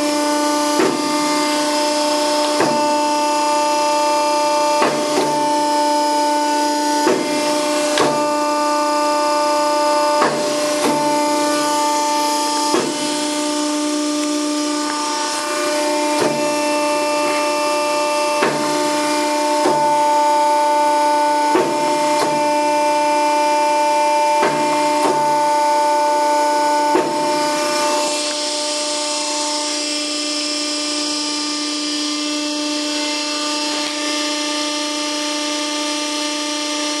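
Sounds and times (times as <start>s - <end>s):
hydraulic pump humming: 0.0s - 37.0s.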